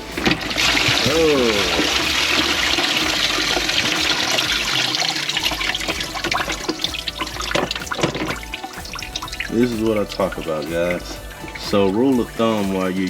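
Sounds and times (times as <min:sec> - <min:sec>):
water gushing into a bucket: 0:00.0 - 0:13.0
water trickling and dripping: 0:00.0 - 0:13.0.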